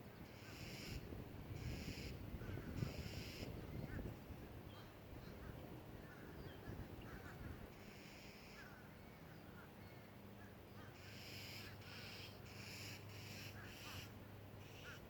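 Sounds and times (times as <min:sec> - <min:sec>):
harsh bird calls: 0:00.0 - 0:15.0.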